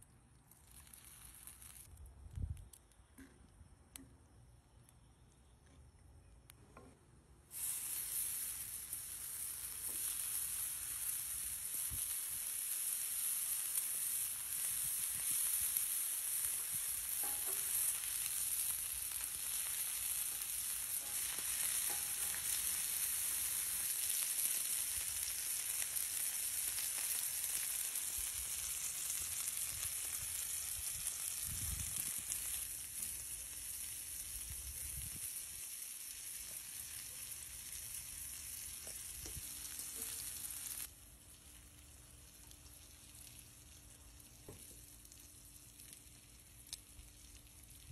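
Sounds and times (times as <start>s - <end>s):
fat sizzling on griddle: 0.0s - 2.5s, 6.8s - 47.9s.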